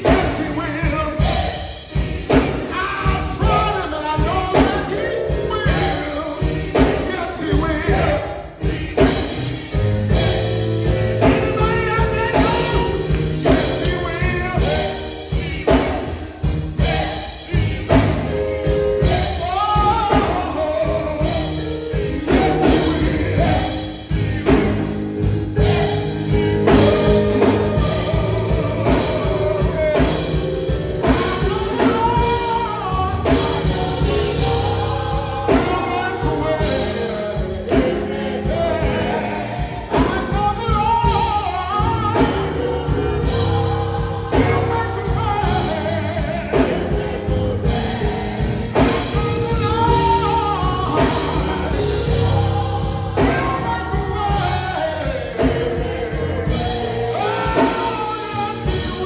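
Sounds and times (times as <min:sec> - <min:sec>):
band with steady drum beat: 0:00.0 - 0:59.0
man singing gospel: 0:00.0 - 0:59.0.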